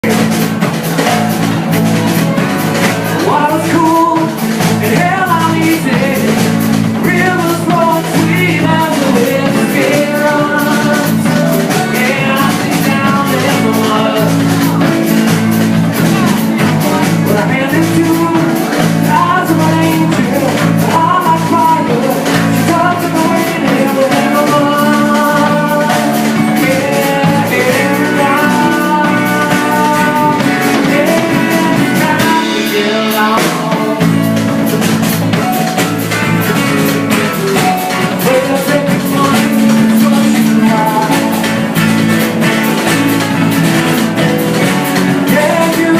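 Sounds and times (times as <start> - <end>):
guitar lead melody: 0.0 - 45.9
live band playing: 0.0 - 45.9.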